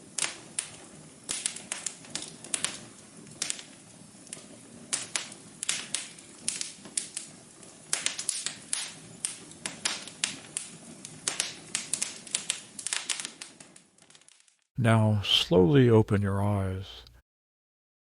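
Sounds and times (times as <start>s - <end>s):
wood fire crackling and popping: 0.0s - 14.7s.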